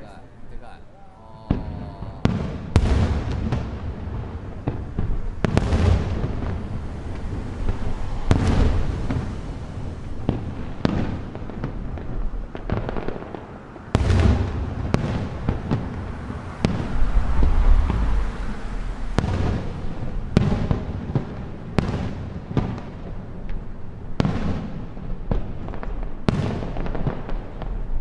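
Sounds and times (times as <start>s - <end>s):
fireworks bangs with echo: 0.0s - 28.0s
fireworks crackles: 0.0s - 28.0s.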